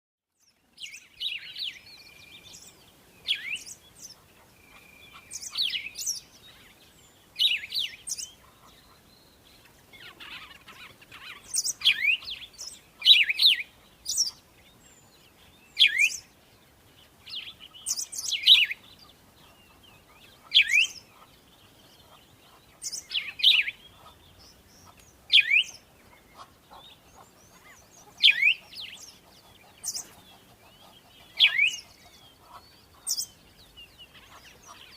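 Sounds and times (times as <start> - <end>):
bird chirping: 0.4 - 34.9.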